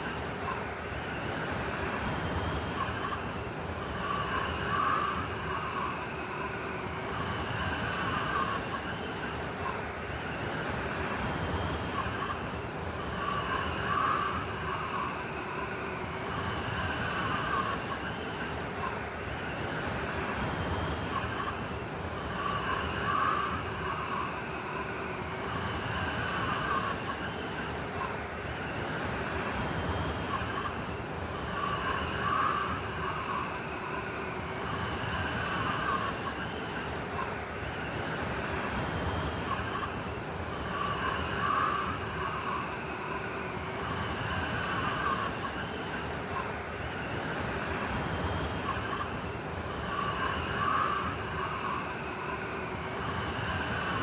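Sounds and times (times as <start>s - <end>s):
blizzard wind with whistling gusts: 0.0s - 54.0s.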